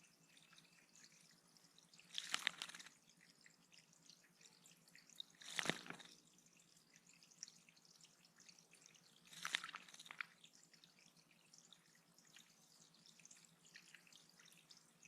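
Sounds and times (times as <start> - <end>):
water dripping and splashing: 0.0 - 15.0.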